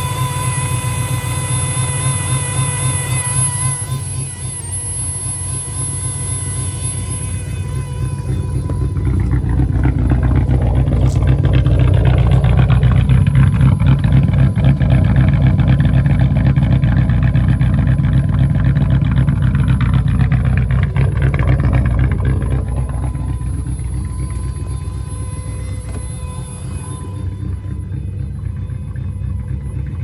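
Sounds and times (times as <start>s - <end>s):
car engine revving: 0.0s - 30.0s
loud whistle over engine: 0.0s - 30.0s.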